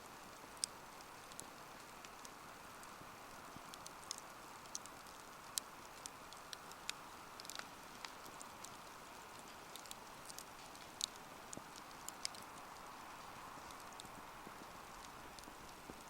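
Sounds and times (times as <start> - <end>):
soft fire hiss: 0.0 - 16.0
wood fire crackling and popping: 0.0 - 16.0.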